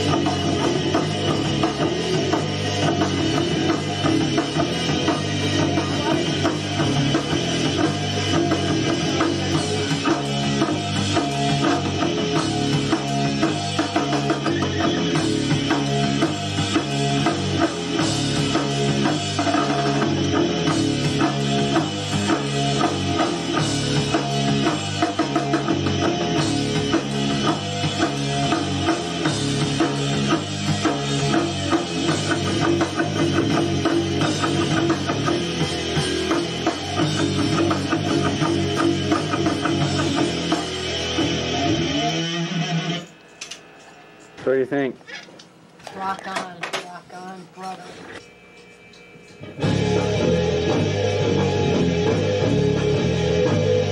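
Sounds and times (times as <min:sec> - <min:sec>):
drum kit with cymbals: 0:00.0 - 0:43.1, 0:49.4 - 0:53.9
rock band playing: 0:00.0 - 0:43.2, 0:49.4 - 0:53.9.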